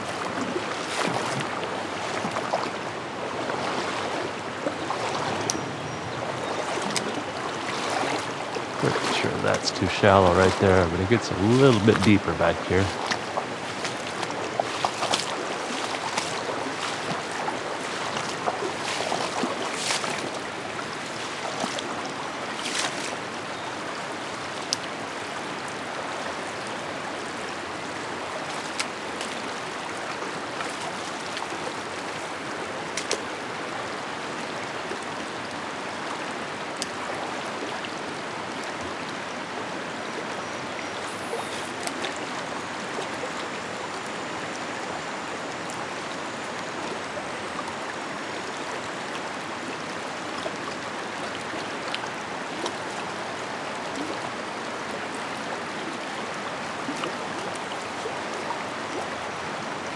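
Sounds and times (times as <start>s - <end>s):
rocky stream rushing: 0.0s - 59.9s.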